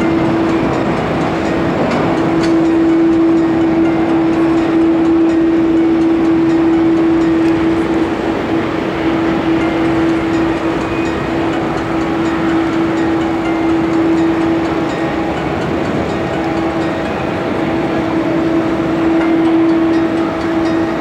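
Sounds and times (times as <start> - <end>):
jet engines idling: 0.0 - 21.0.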